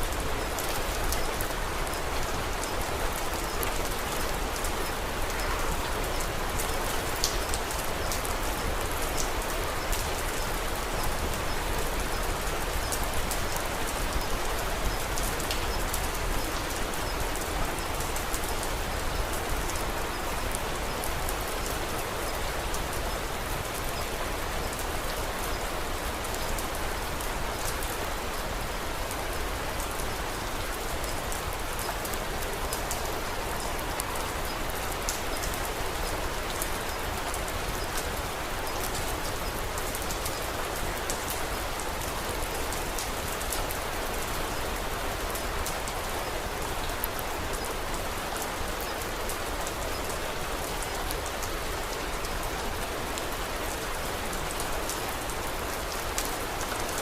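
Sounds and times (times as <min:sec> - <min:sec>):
sharp ticks of raindrops: 0:00.0 - 0:57.0
steady rain falling: 0:00.0 - 0:57.0.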